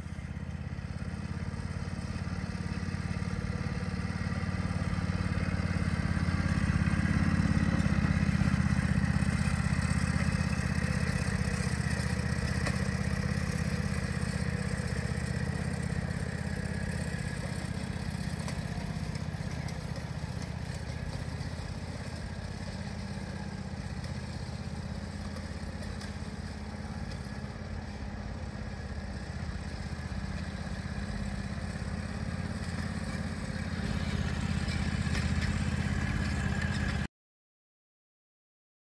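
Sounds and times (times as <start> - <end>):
utility vehicle engine running: 0.0 - 37.1.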